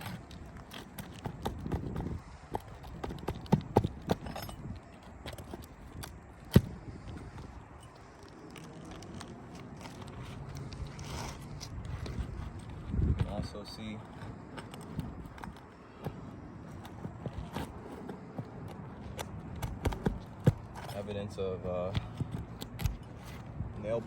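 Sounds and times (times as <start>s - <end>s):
handling and scraping: 0.0s - 24.0s.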